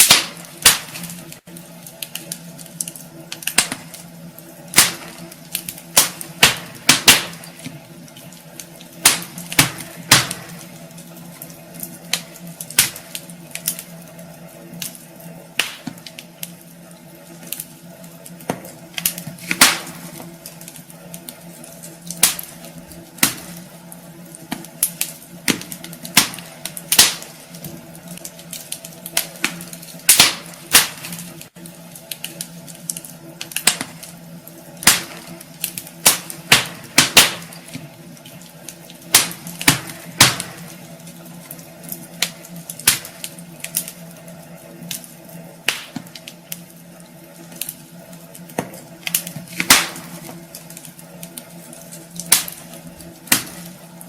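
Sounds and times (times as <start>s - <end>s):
faint steady hum: 0.0s - 54.0s
logs crackling and popping: 0.0s - 54.0s.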